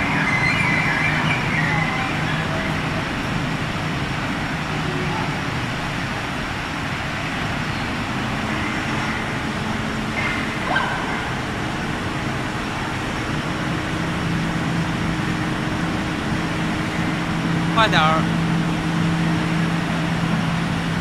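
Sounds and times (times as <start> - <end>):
steady industrial noise: 0.0 - 21.0.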